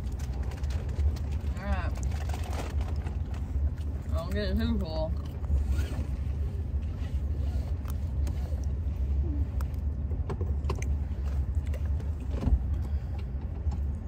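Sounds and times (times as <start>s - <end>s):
car engine idling rumble: 0.0s - 14.0s.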